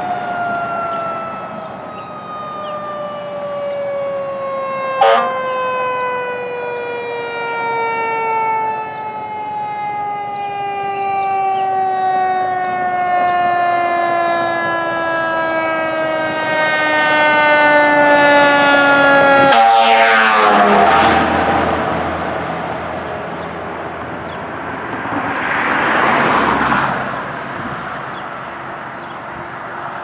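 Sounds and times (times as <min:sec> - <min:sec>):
fire engine siren: 0:00.0 - 0:30.0.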